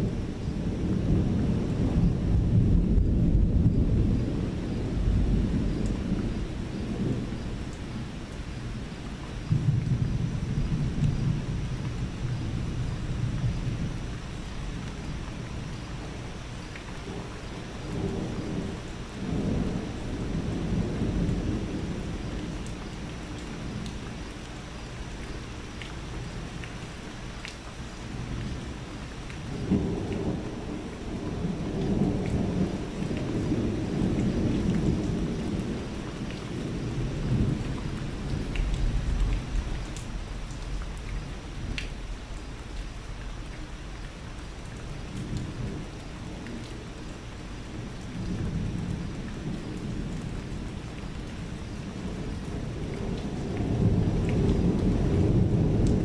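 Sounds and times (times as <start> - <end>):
thunder rumbling: 0.0 - 16.3, 17.0 - 24.1, 28.1 - 43.4, 47.6 - 56.0
steady rain: 0.0 - 56.0.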